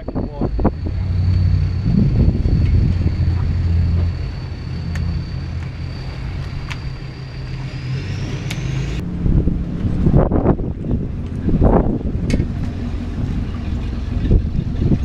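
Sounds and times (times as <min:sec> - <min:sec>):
engine idling: 0:00.0 - 0:15.0
high whine rising in pitch: 0:00.0 - 0:15.0.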